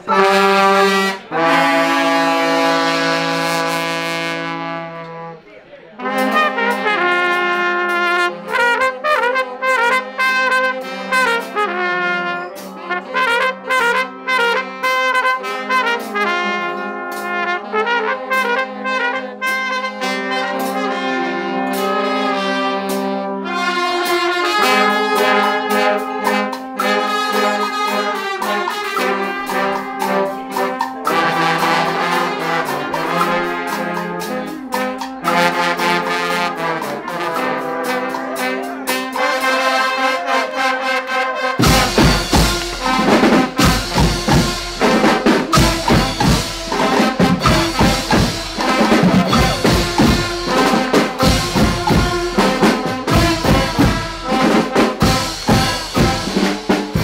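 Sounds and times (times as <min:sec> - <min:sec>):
brass blaring chords: 0:00.0 - 0:57.0
drum and cymbal beats: 0:06.0 - 0:18.6, 0:19.4 - 0:40.3, 0:41.6 - 0:57.0.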